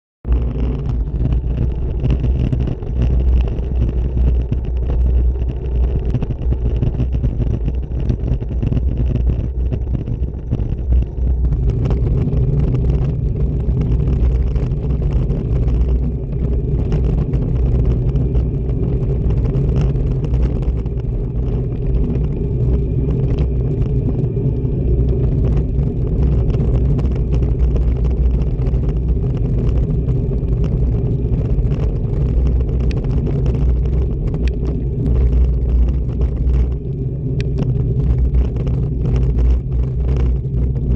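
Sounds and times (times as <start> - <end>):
tyres rumbling on asphalt: 0.2 - 40.9
wind buffeting microphone: 0.3 - 40.9.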